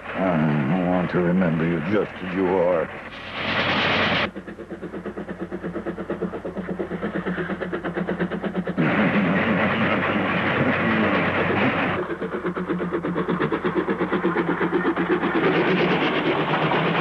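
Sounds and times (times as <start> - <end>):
train hissing: 0.0 - 17.0
train wheels clattering: 0.7 - 17.0.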